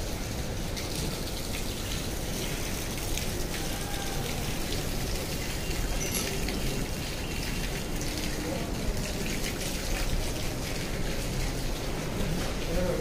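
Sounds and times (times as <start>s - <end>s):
water drips and splashes: 0.0s - 13.0s
water hissing and pattering: 0.0s - 13.0s.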